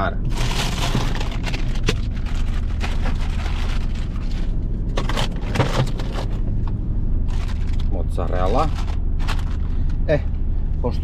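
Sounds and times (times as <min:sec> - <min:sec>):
steady low drone: 0:00.0 - 0:11.0
plastic packaging rustling: 0:00.2 - 0:06.5, 0:07.2 - 0:10.0.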